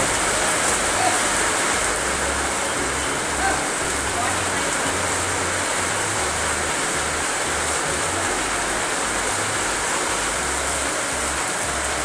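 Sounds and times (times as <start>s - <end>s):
rain on paving: 0.0s - 12.0s.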